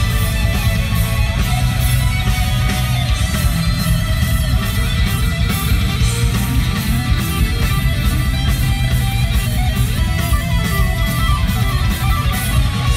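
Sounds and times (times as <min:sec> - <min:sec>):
bass guitar: 0:00.0 - 0:12.9
distorted electric guitars: 0:00.0 - 0:12.9
steady drums: 0:00.0 - 0:12.9.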